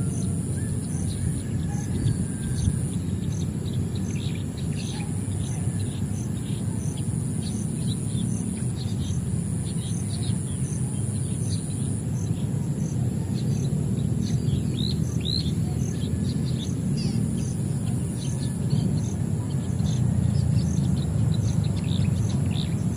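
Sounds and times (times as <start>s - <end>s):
birds chirping: 0.0s - 22.9s
high insect drone: 0.0s - 22.9s.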